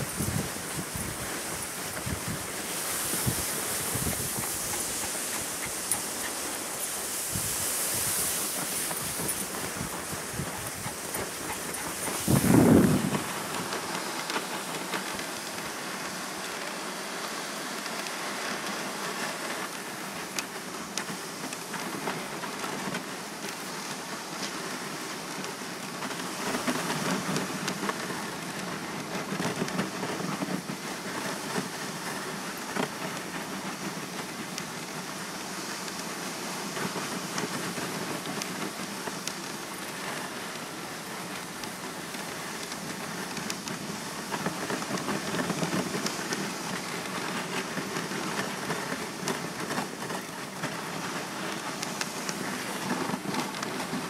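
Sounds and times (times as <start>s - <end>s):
sled runners gliding over snow: 0.0s - 54.0s.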